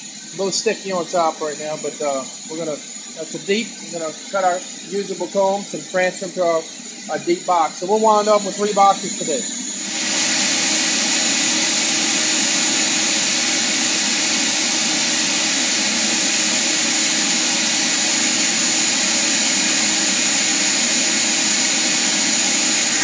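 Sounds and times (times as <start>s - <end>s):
vacuum air rush and motor whine: 0.0s - 23.0s.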